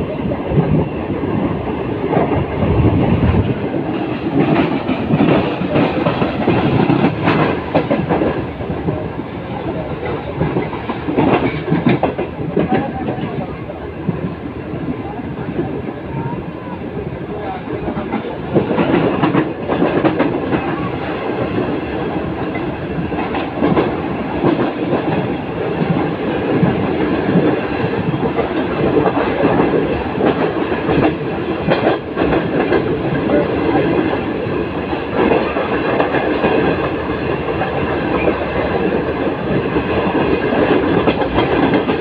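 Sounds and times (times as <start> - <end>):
train carriage rumble and rattle: 0.0 - 42.0
train wheels clacking: 0.4 - 14.4, 17.5 - 42.0.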